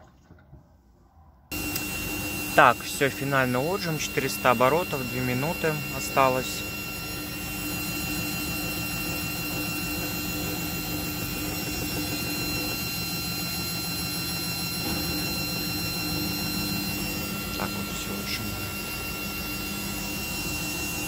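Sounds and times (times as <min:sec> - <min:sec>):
washing machine spinning: 0:01.5 - 0:21.0.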